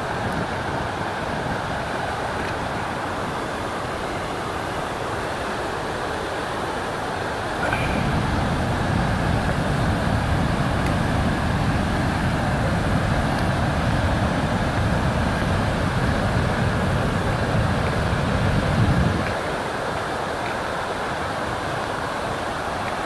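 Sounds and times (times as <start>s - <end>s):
river water roaring over weir: 0.0s - 23.0s.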